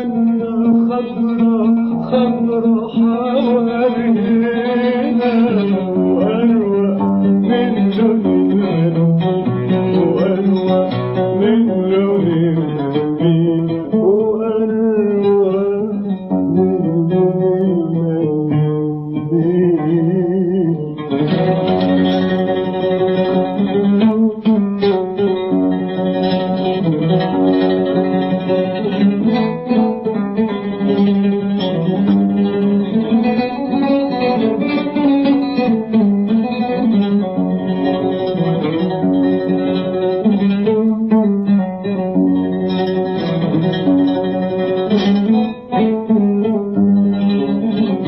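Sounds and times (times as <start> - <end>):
plucked oud melody: 0.0 - 48.0.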